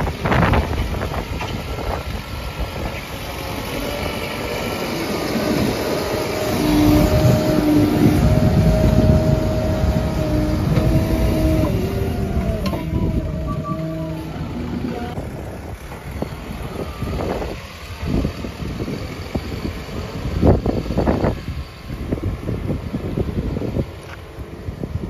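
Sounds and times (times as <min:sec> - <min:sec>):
whine shifting in pitch: 0:00.0 - 0:23.7
backhoe diesel engine running: 0:00.0 - 0:25.0.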